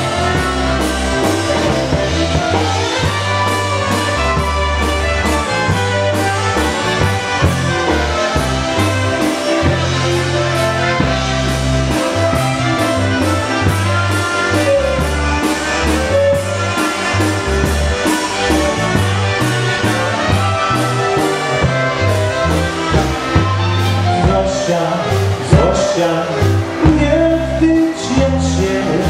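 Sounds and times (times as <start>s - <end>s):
live polka band playing waltz: 0.0s - 29.0s.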